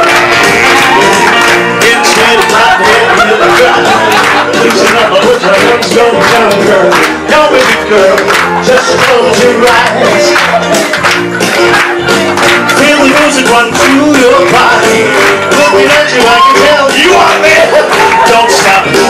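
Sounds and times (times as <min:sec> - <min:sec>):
people clapping along: 0:00.0 - 0:19.0
upbeat pop backing track: 0:00.0 - 0:19.0.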